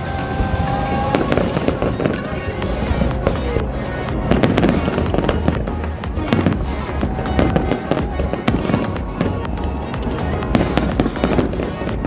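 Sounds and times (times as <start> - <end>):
fireworks bangs and crackles: 0.0 - 12.0
music with steady bass: 0.0 - 12.0.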